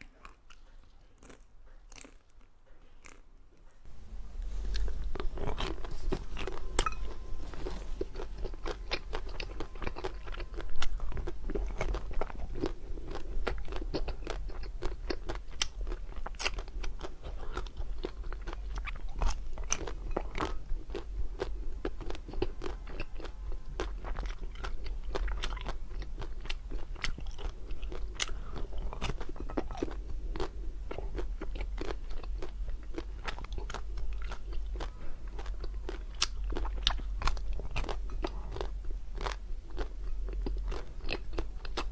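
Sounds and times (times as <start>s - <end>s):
chewing crunchy ice cream: 0.0s - 3.3s, 4.6s - 41.9s
steady low hum: 0.0s - 41.9s.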